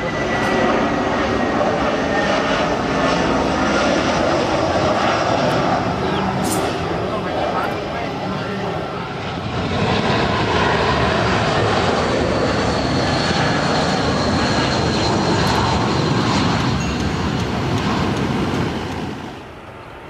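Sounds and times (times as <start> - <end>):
jet airliner engines roaring: 0.0 - 20.0
thin high jet whine: 0.0 - 20.0.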